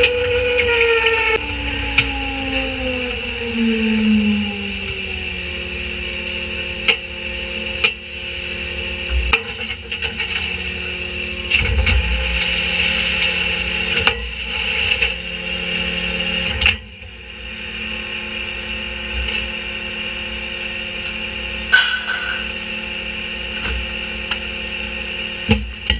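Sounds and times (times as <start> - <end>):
garbage truck engine and hydraulics: 0.0 - 25.9.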